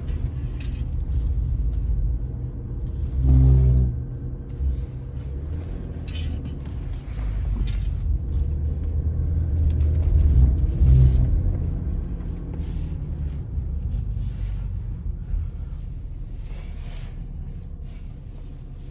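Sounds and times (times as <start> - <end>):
car humming vibrating rumble: 0.0 - 18.9.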